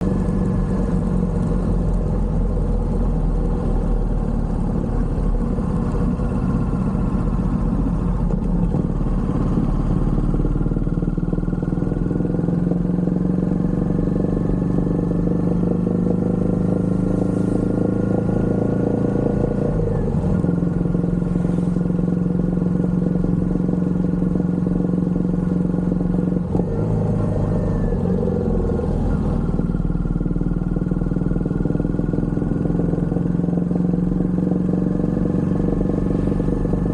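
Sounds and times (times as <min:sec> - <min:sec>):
motorcycle engine and exhaust: 0:00.0 - 0:36.9.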